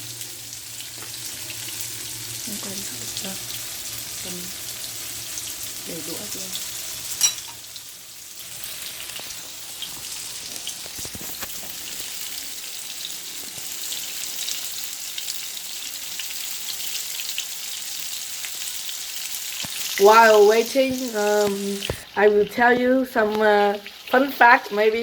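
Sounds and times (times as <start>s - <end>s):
tofu sizzling in hot oil: 0.0s - 22.2s, 23.3s - 24.8s.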